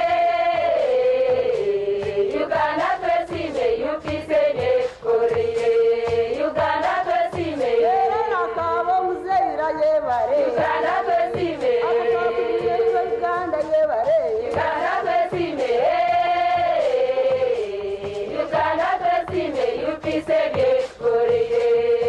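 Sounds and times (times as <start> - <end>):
women's choir singing: 0.0 - 9.2, 10.4 - 13.4, 14.4 - 22.0
low drum beat: 0.0 - 22.0.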